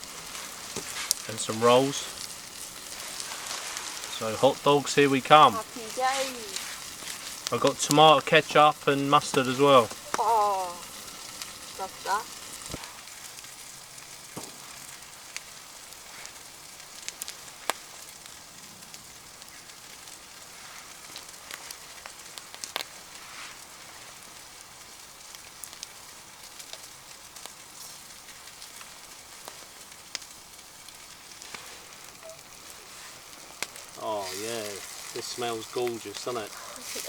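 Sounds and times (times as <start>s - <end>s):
campfire crackling and popping: 0.0s - 37.0s
food sizzling over flames: 0.0s - 37.0s.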